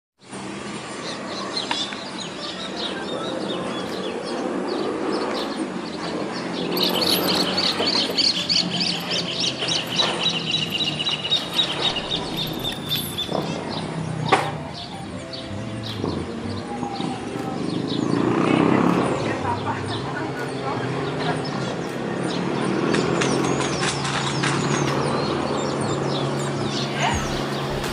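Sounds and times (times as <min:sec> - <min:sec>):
birds chirping: 0:00.6 - 0:27.9.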